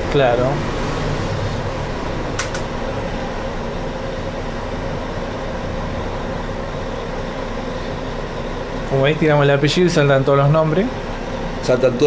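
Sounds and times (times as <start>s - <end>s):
mechanical hum and hiss: 0.0s - 12.0s.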